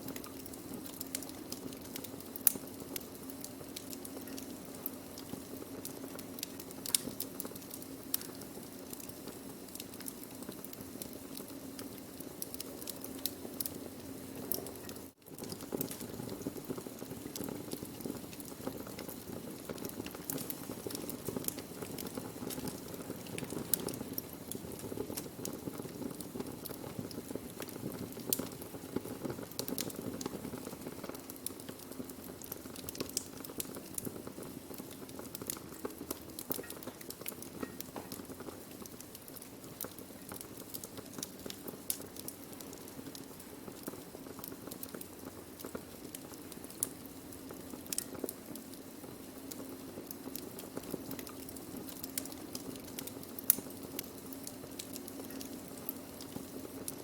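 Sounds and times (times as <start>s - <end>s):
burning wood crackling: 0.0s - 57.0s.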